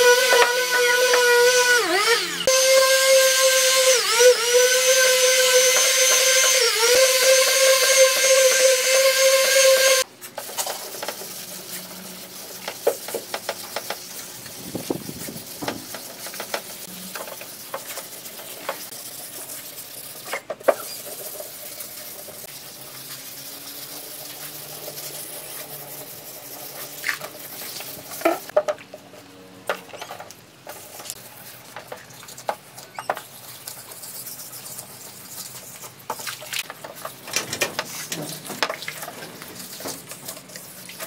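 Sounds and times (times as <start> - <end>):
wet sanding strokes: 0.0 - 28.5, 33.4 - 36.6, 38.9 - 41.0.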